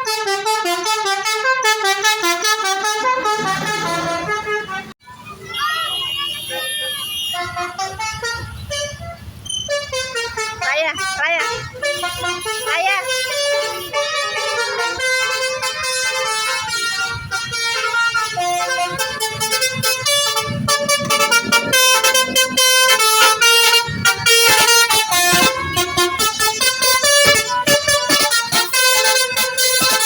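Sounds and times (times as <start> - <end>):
multi-tone bus horn tune: 0.0 - 30.0.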